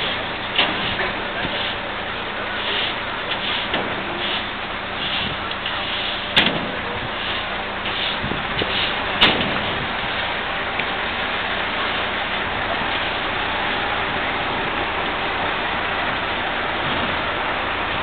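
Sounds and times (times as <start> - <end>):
crowd murmur: 0.0 - 18.0.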